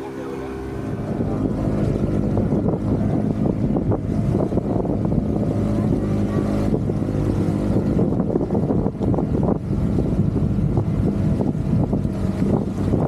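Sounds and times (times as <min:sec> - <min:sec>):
motorboat engine running: 0:00.0 - 0:13.0
water splashing against hull: 0:00.0 - 0:13.0
wind buffeting microphone: 0:00.0 - 0:13.0.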